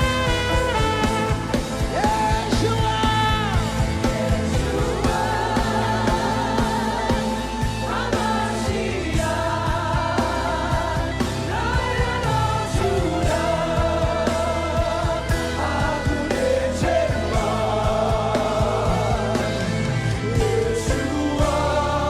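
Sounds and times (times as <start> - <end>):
band with steady beat: 0.0 - 22.0
voices singing gospel: 0.0 - 22.0.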